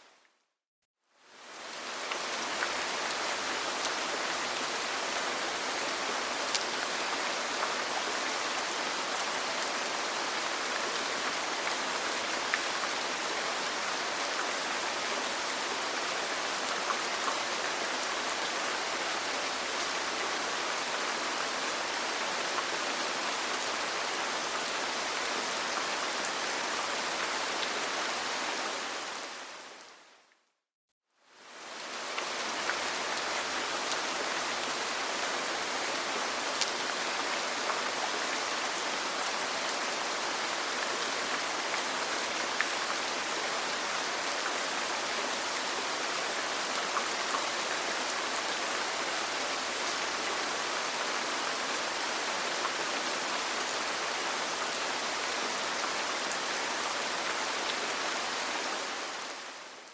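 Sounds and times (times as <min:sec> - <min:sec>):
rain falling on a roof: 0:01.2 - 0:30.4, 0:31.2 - 0:59.9.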